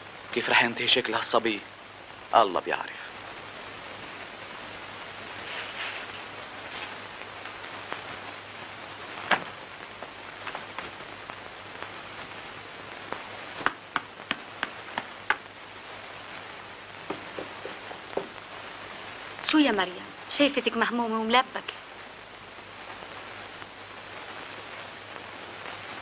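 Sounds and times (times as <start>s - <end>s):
film soundtrack hiss: 0.0s - 26.0s.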